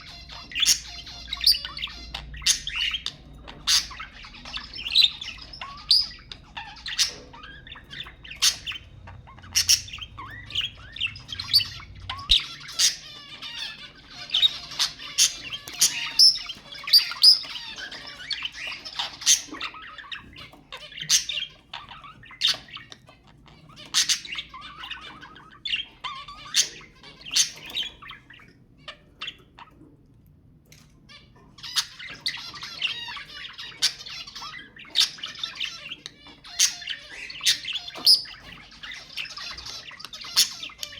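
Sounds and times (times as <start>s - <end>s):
bird squawks and chirps: 0.0s - 29.9s, 31.0s - 40.9s
budgerigars chattering and warbling: 0.0s - 30.2s, 30.8s - 40.9s.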